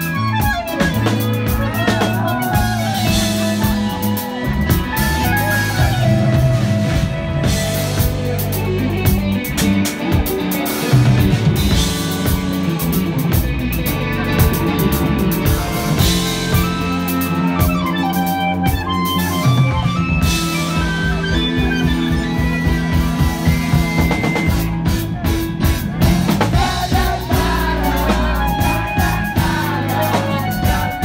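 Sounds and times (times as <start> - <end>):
electric guitar bending notes: 0.0 - 31.0
psychedelic rock band playing live: 0.0 - 31.0.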